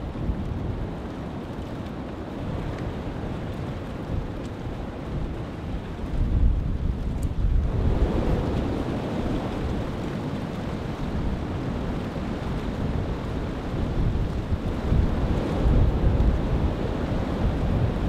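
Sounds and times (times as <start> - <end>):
wind buffeting microphone: 0.0 - 18.0
wind gusting through trees: 0.0 - 18.0.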